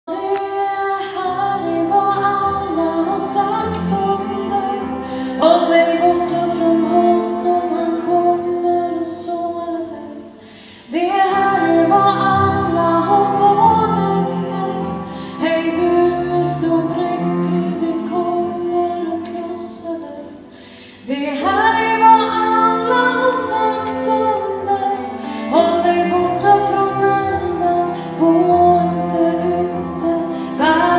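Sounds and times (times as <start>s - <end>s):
musical accompaniment: 0.1s - 30.9s
woman singing slow song: 0.1s - 30.9s.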